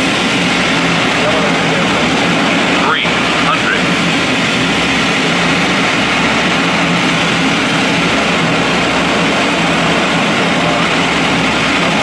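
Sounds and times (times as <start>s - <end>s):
constant low hum: 0.0s - 12.0s
turboprop engines droning: 0.0s - 12.0s.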